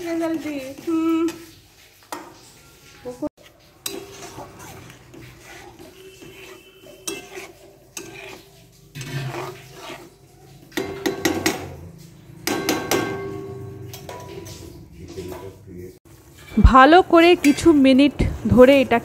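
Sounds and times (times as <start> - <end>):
spatula scraping a pan: 0.0 - 15.4.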